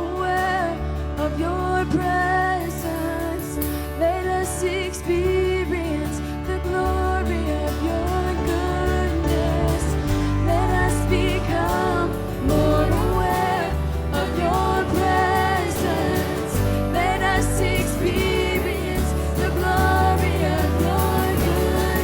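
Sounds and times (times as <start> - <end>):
band playing worship song: 0.0 - 22.0
person singing: 0.0 - 22.0.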